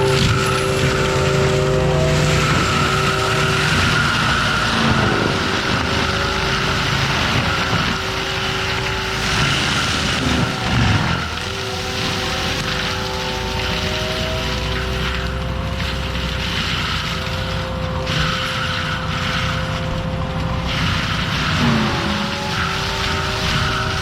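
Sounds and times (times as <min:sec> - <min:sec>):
mulcher engine and drum whine: 0:00.0 - 0:24.0.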